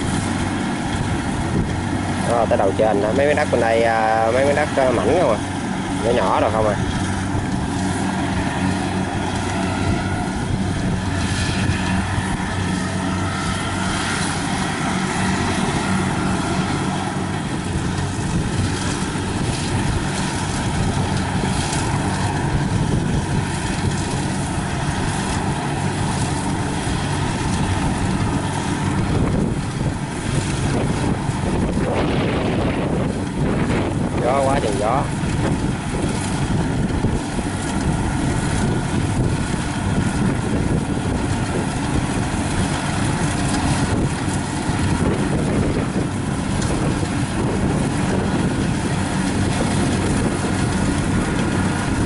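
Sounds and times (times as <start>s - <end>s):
combine harvester diesel engine: 0.0s - 52.0s.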